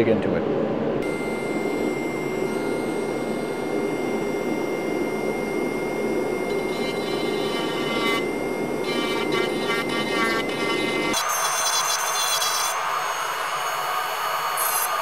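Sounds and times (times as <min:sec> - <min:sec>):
rotary tool whining: 0:01.0 - 0:15.0.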